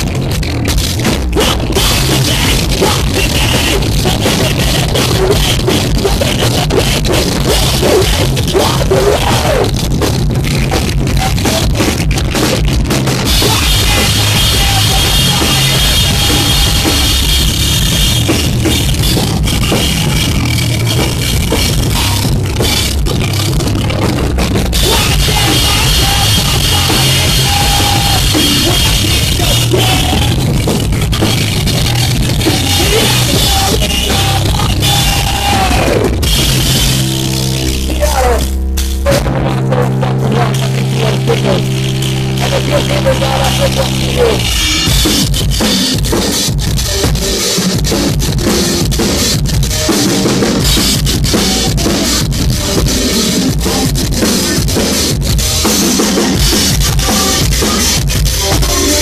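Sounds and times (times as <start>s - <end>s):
drum kit: 0.0s - 59.0s
electric guitars: 0.0s - 59.0s
live rock band playing: 0.0s - 59.0s.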